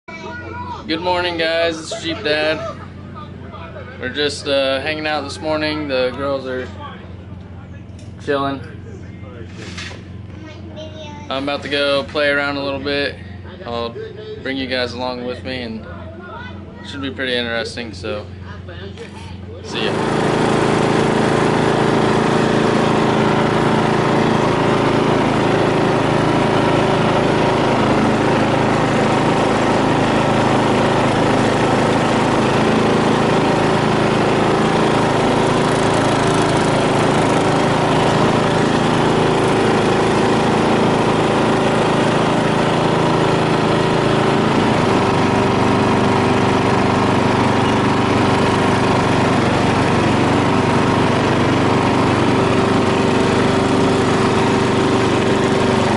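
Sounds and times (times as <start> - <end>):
lawn mower engine running: 0.0 - 8.8, 11.3 - 15.9, 16.5 - 55.9.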